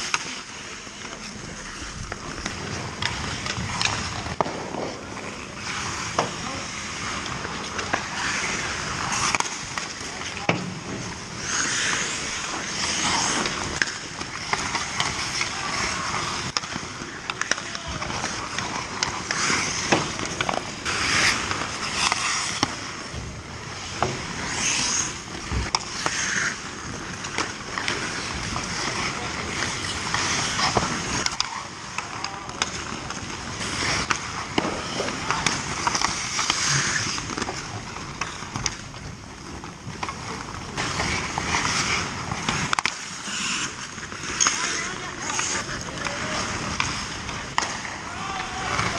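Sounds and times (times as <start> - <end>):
hockey sticks and puck clacking: 0.0 - 48.9
skates scraping ice: 0.0 - 48.9.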